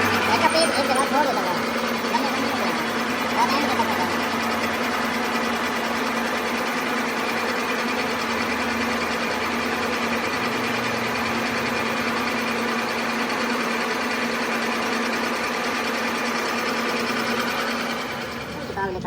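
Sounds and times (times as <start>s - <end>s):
workshop machine running: 0.0s - 19.0s.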